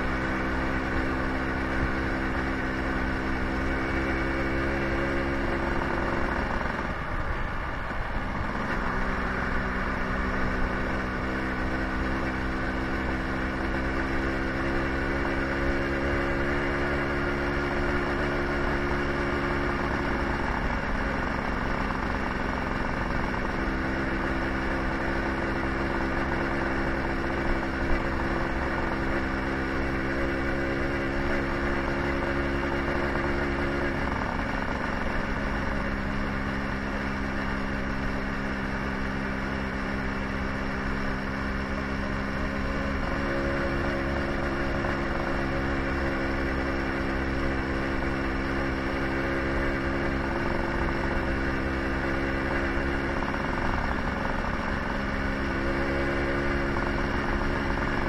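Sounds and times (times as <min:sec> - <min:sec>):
scooter engine running: 0:00.0 - 0:58.0
wind and road noise: 0:00.0 - 0:58.0.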